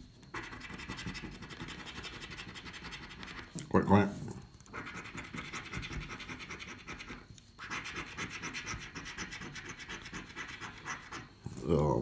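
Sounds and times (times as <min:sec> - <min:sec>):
scratchcard being scraped: 0:00.3 - 0:03.5, 0:04.7 - 0:11.3.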